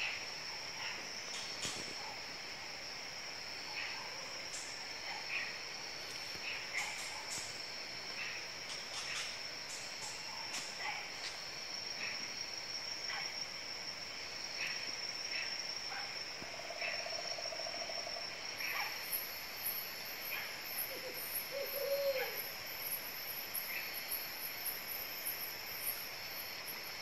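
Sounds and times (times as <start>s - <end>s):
higher pulsing insect song: 0.0s - 27.0s.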